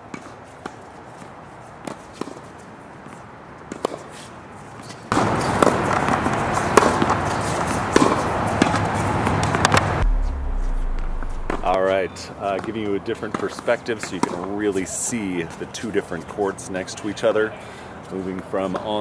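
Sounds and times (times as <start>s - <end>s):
background noise: 0.0s - 19.0s.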